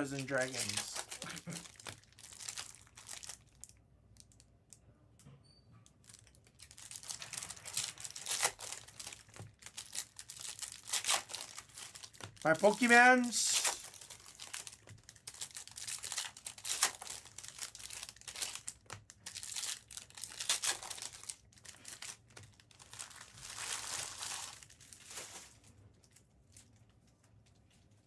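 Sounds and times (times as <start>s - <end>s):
plastic wrapping crinkling: 0.0s - 4.4s, 6.0s - 28.0s.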